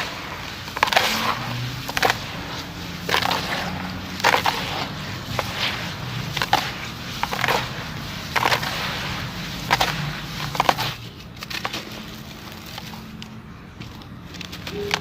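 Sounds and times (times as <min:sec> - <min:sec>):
sand-cement chunks crunching: 0:00.0 - 0:15.0
small crumbling crackles: 0:00.0 - 0:15.0.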